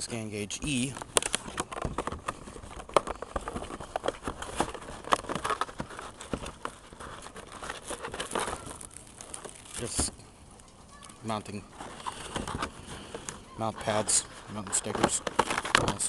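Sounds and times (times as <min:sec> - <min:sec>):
plastic packaging crinkling: 0:00.6 - 0:16.0.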